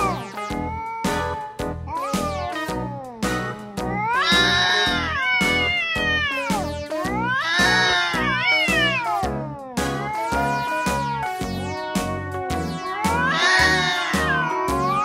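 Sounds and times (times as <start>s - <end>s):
background music with steady beat: 0.0s - 15.0s
cat yowling: 0.5s - 9.2s, 10.0s - 11.3s, 12.9s - 15.0s.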